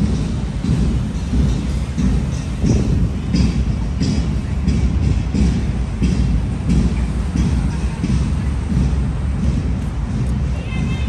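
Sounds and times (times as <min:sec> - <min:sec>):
walking footsteps: 0:00.0 - 0:11.0
wind buffeting microphone: 0:00.0 - 0:11.0.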